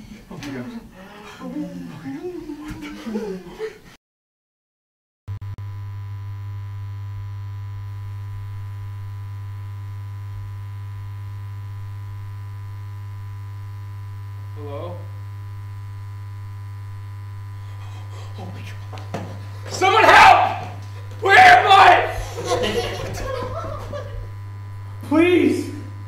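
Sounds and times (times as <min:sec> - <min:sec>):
buzzy electrical hum: 0:00.0 - 0:03.9, 0:05.4 - 0:26.0.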